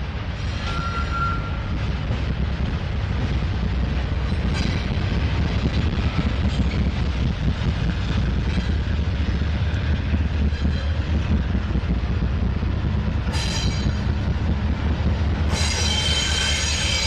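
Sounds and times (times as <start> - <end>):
diesel locomotive engines droning: 0.0 - 17.0.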